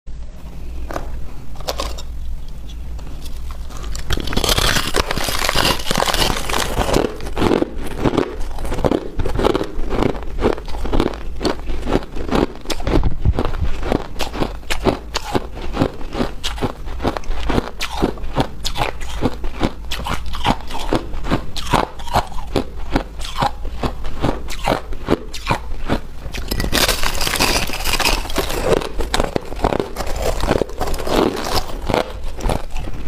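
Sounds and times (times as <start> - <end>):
person chewing ice: 3.1 - 33.0.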